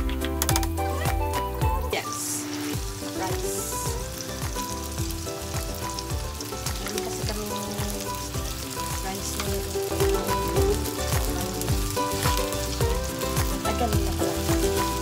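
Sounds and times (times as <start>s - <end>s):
frying sizzle in a pan: 1.9s - 15.0s.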